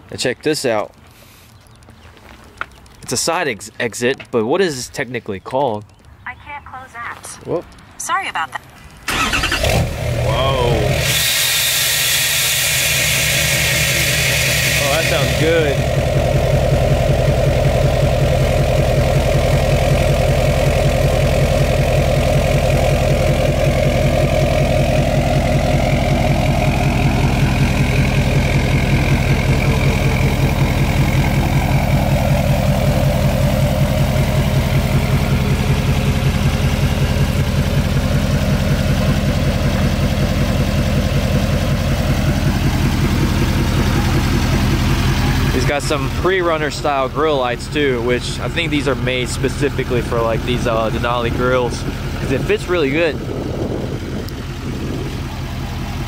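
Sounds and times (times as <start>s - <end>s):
diesel engine idling: 9.0s - 56.0s.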